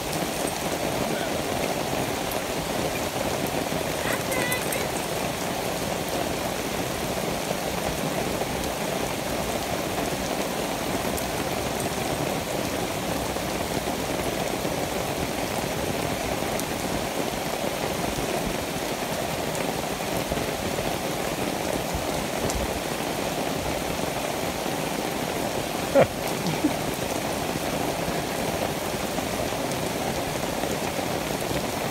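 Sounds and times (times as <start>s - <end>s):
rain falling on leaves: 0.0s - 31.9s.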